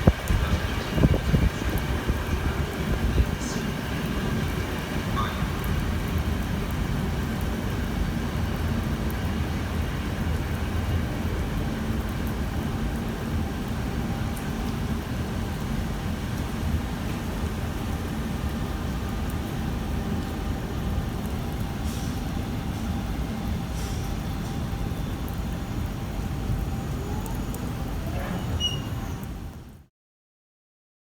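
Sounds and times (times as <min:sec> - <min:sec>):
train rumbling: 0:00.0 - 0:29.8.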